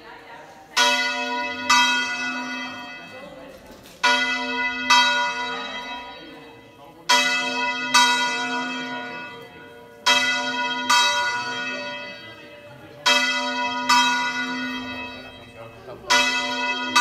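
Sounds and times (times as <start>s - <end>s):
church bell clapper striking: 0.8s - 3.3s, 4.0s - 17.0s.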